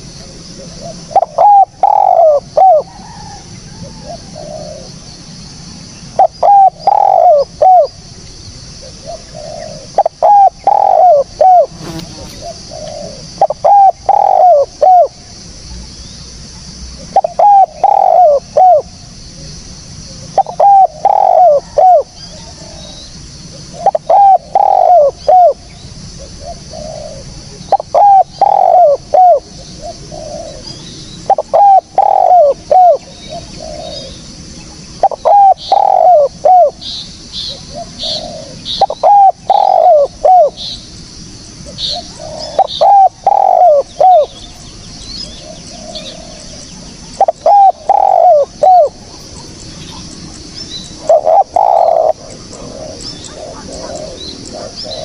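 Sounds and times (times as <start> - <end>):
dove cooing: 0.0 - 5.0, 6.2 - 8.0, 8.8 - 15.2, 17.1 - 18.9, 20.2 - 34.2, 35.0 - 40.7, 41.6 - 44.6, 45.2 - 55.0
steady high hiss: 0.0 - 55.0.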